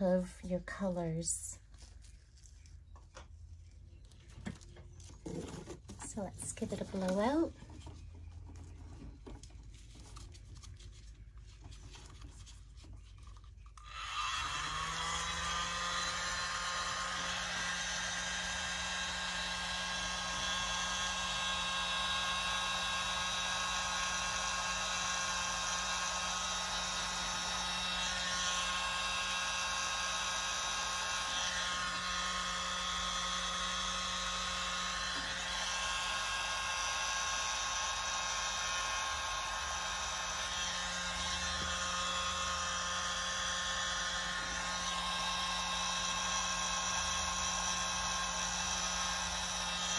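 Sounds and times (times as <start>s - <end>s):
mini air blower whining: 3.6s - 49.9s.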